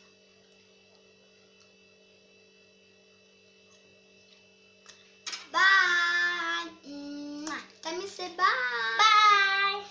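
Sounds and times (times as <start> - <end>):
faint electrical hum: 0.0 - 9.9.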